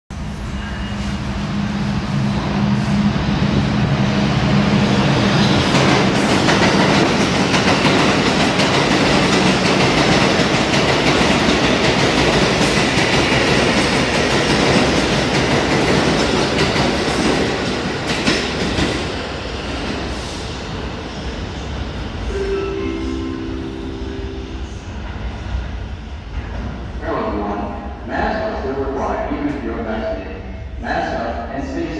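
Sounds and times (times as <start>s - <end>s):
subway train passing: 0.1s - 31.9s.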